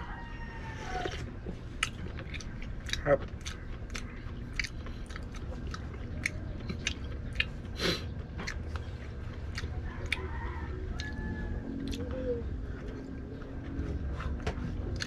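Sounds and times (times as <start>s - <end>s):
person chewing: 0.6s - 15.0s.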